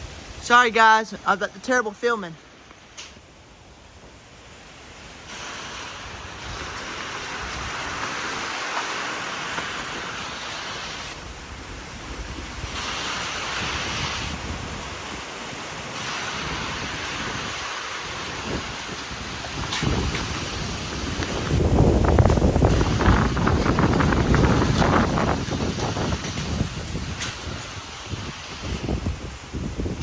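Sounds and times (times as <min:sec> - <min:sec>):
strong wind gusting: 0:00.0 - 0:01.0, 0:04.8 - 0:30.0
wind buffeting microphone: 0:05.3 - 0:30.0.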